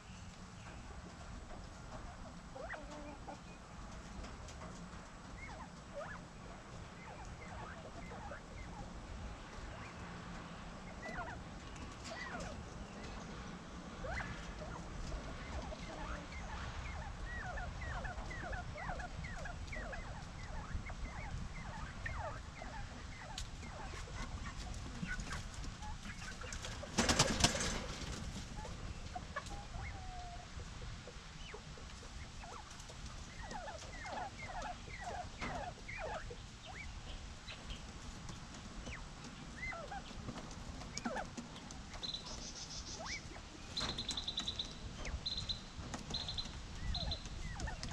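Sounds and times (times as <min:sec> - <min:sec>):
quail chirping calls: 0:00.6 - 0:03.6, 0:05.2 - 0:47.9.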